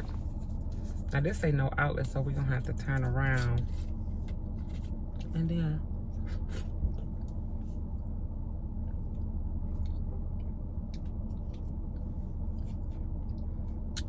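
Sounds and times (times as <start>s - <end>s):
vehicle cabin rumble: 0.0s - 14.0s.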